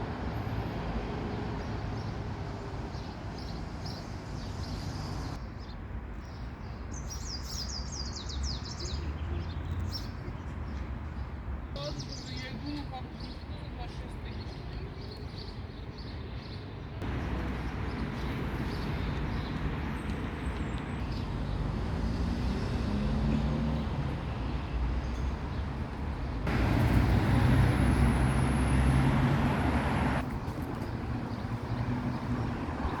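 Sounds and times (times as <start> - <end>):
road traffic hum: 0.0 - 33.0.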